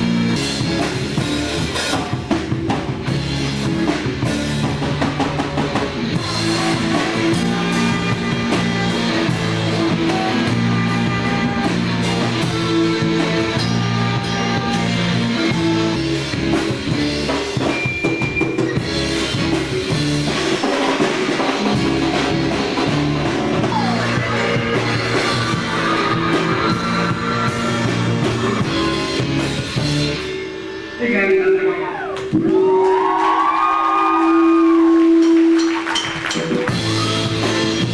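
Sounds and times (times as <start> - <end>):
rock music with singing: 0.0 - 32.8, 36.3 - 37.9.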